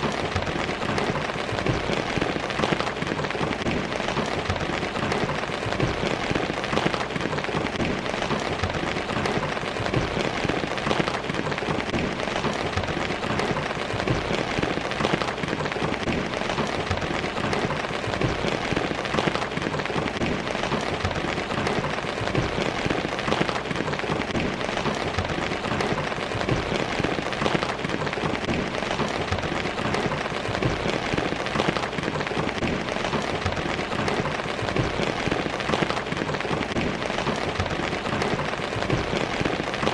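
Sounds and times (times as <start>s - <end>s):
heavy rain pattering on surfaces: 0.0s - 39.9s.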